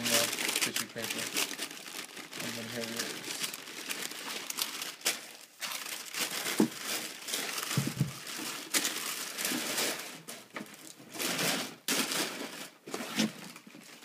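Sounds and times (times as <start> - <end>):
tissue paper crinkling: 0.0 - 14.0.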